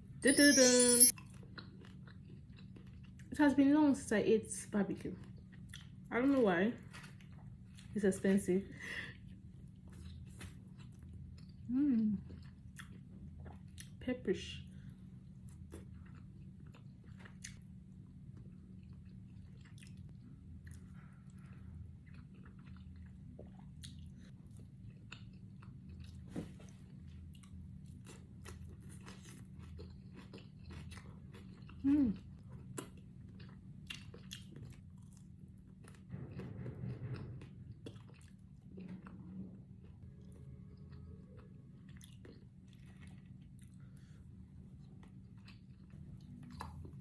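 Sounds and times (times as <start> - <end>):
chewing and crunching food: 1.1 - 47.0.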